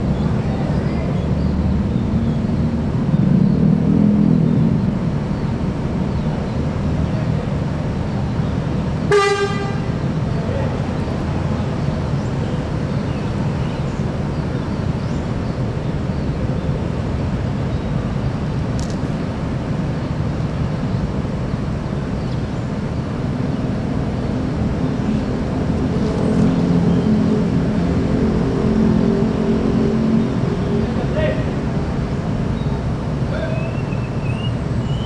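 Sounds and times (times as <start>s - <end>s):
diesel bus engines rumbling: 0.0s - 35.0s
nearby engine hum: 0.0s - 35.0s.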